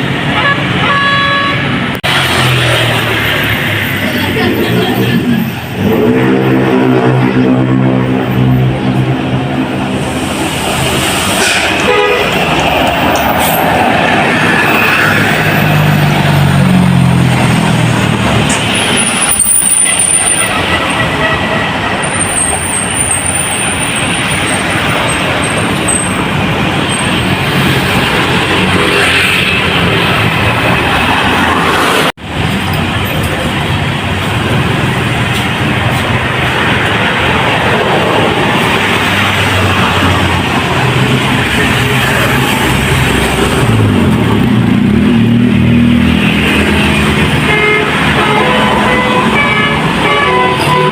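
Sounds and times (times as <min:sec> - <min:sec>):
buses and trucks passing: 0:00.0 - 0:50.9.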